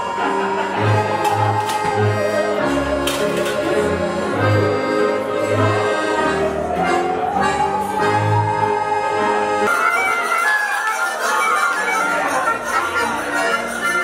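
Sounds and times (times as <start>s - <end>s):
accordion chords: 0.0s - 14.0s
bowed musical saw melody: 0.0s - 14.0s.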